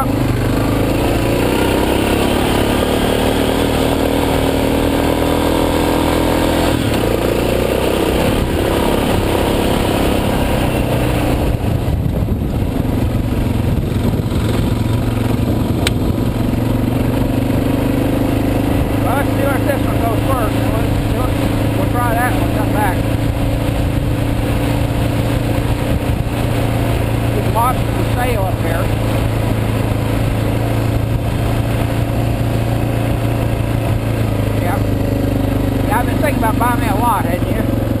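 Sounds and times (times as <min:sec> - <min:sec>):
motorcycle engine on gravel trail: 0:00.0 - 0:38.0.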